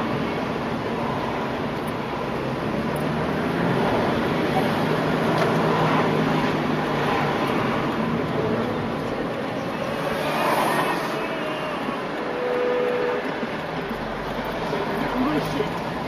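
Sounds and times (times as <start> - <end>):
car engine hum: 0.0 - 16.0
road noise: 0.0 - 16.0.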